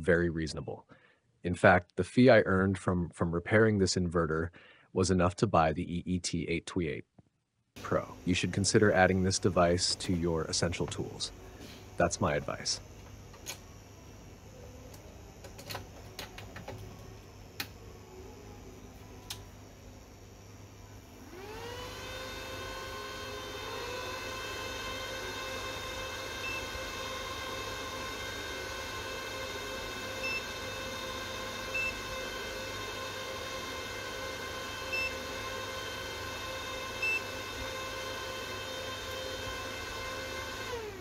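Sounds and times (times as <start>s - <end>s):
cooling fan humming: 7.8s - 41.0s.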